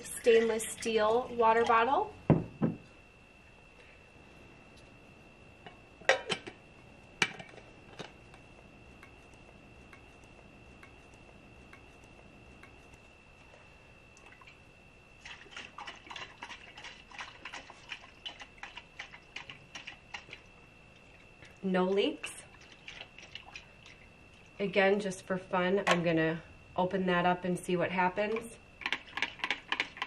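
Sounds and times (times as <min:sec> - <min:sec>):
faint high whine: 0:00.0 - 0:30.0.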